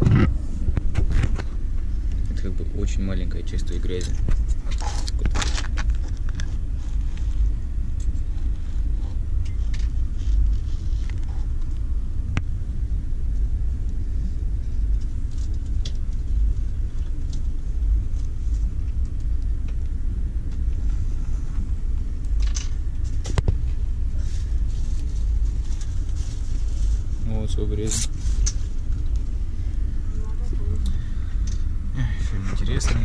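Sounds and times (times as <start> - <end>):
train rumble inside carriage: 0.0 - 33.0.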